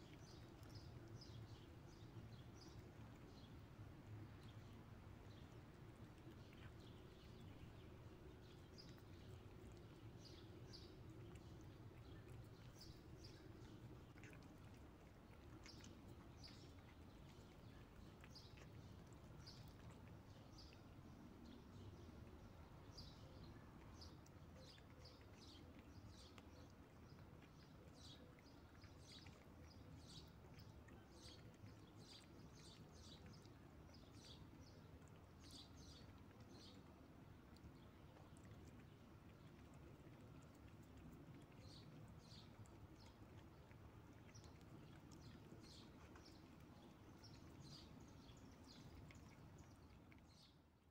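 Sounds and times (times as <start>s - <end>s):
faint low background noise: 0.0s - 50.9s
small birds chirping: 0.0s - 50.9s.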